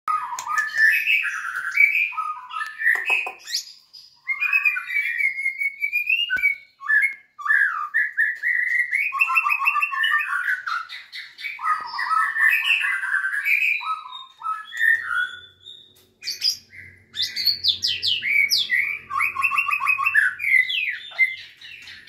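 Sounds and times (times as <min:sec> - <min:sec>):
bird singing varied song: 0:00.1 - 0:22.0.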